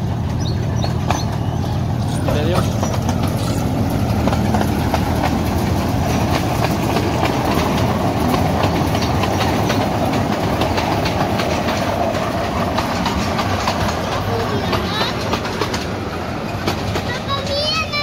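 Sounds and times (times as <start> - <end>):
train cars rumbling on rails: 0.0 - 18.0
wheels clicking on track: 0.0 - 18.0.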